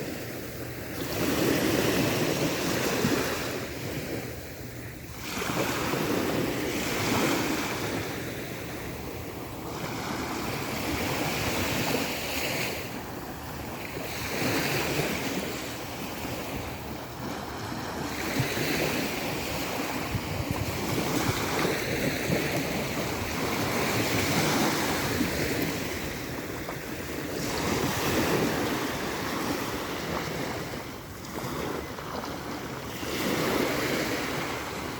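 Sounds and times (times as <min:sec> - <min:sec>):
sea surf washing onto beach: 0:00.0 - 0:34.9
wind buffeting microphone: 0:05.0 - 0:34.9.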